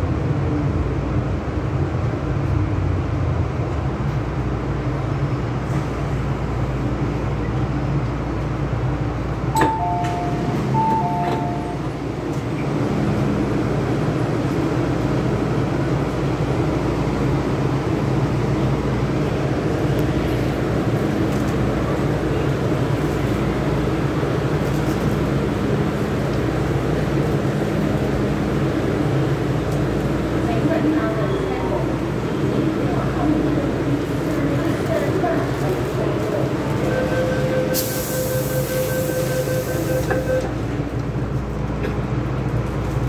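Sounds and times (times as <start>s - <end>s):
train rumble and hum: 0.0s - 43.0s.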